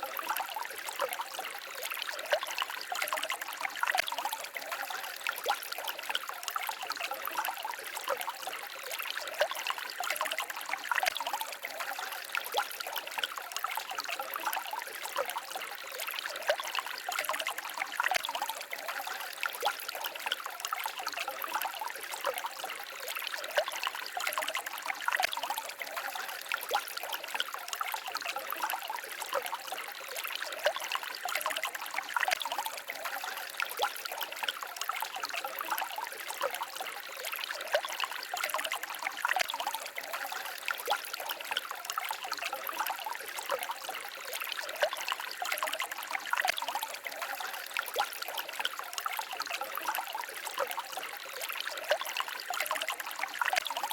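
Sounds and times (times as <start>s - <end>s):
stream babbling over rocks: 0.0s - 53.9s.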